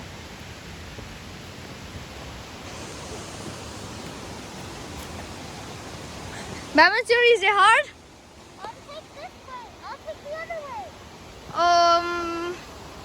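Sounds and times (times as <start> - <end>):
flowing creek water rushing: 0.0 - 13.0.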